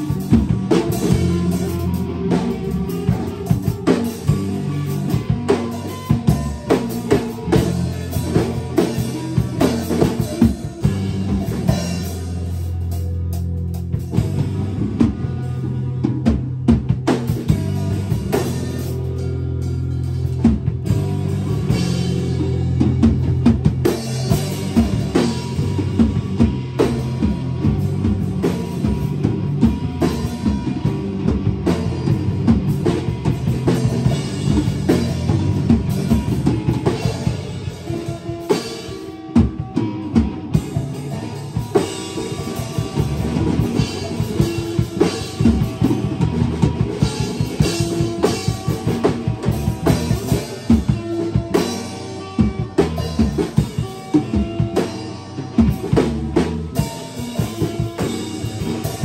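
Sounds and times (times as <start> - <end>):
bass guitar low notes: 0.0 - 38.5, 39.3 - 59.0
drum kit: 0.0 - 59.0
electric guitar: 0.0 - 59.0
rock band playing: 0.0 - 59.0.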